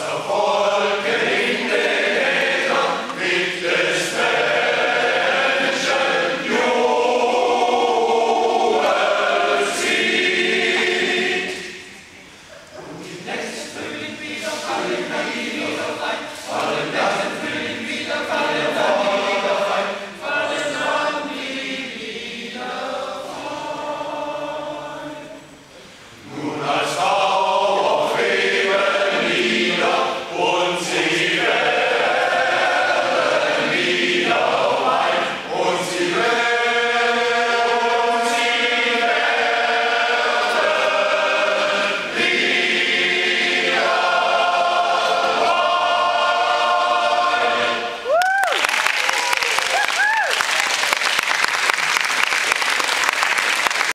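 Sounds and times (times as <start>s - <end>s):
men's choir singing a cappella: 0.0s - 12.0s, 12.8s - 48.0s.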